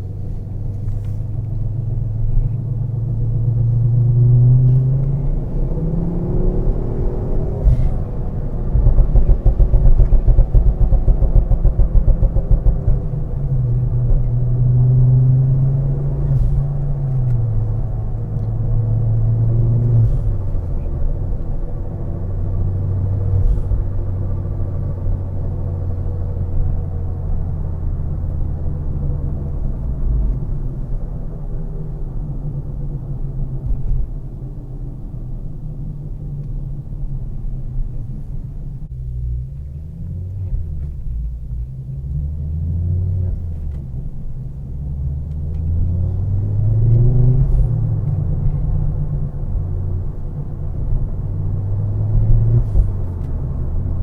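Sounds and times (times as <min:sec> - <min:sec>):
car engine droning: 0:00.0 - 0:54.0
car engine pulsing rumble: 0:00.0 - 0:54.0.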